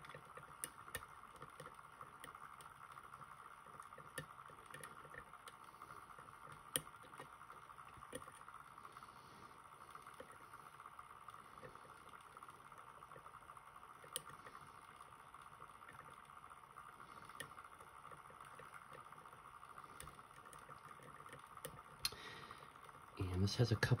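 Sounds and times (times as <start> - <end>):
faint background hum: 0.0 - 24.0.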